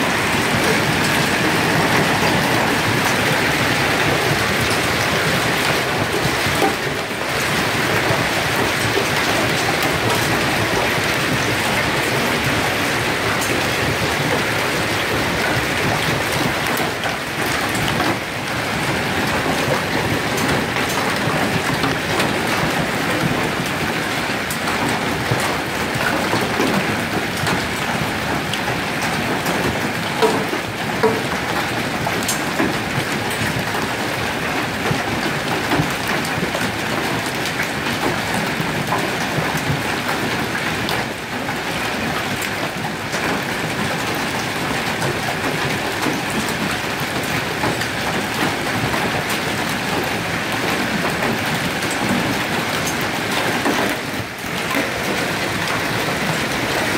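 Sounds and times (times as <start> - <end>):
hail pelting on cars: 0.0 - 56.9.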